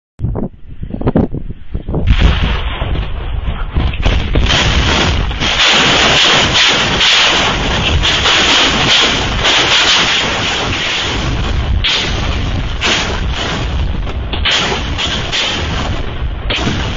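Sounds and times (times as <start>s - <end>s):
sharp bangs: 2.0s - 16.9s
crackle of small overlapping blasts: 2.1s - 16.9s.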